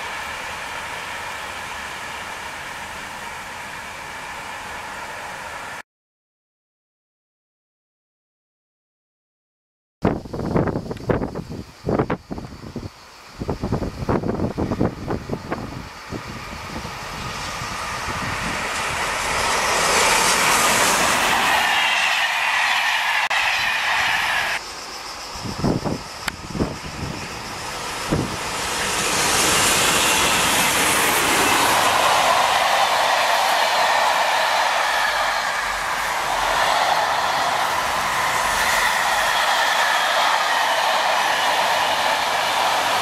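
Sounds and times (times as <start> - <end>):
freight train passing: 0.0 - 5.8, 12.4 - 43.0
passenger train passing: 0.0 - 5.8, 12.2 - 43.0.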